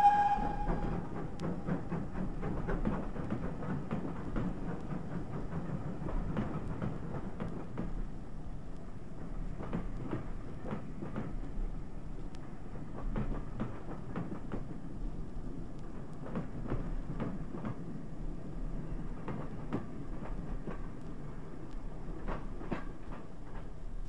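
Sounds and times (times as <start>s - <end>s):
train wheels clicking over rail joints: 0.0s - 8.2s, 9.2s - 24.0s
train low rumble: 0.0s - 24.0s.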